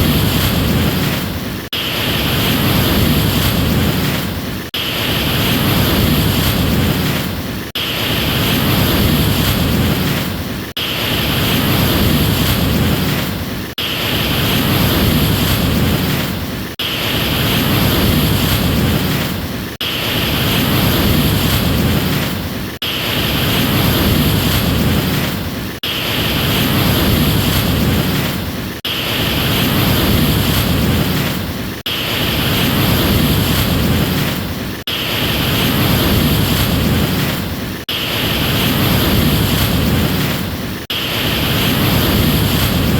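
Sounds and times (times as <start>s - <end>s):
ocean waves and surf: 0.0s - 42.9s.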